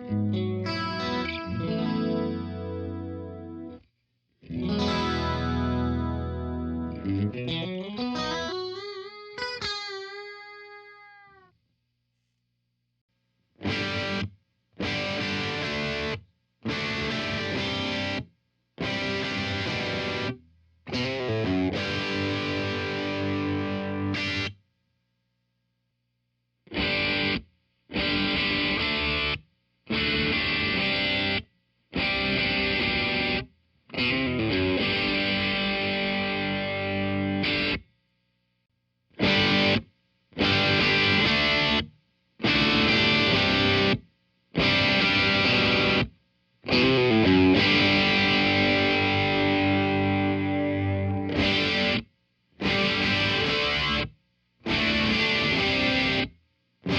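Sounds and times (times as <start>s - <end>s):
distorted electric guitar chords: 0.0s - 3.8s, 4.5s - 11.2s, 13.6s - 24.6s, 26.7s - 31.4s, 32.0s - 37.8s, 39.2s - 44.0s, 44.6s - 56.9s.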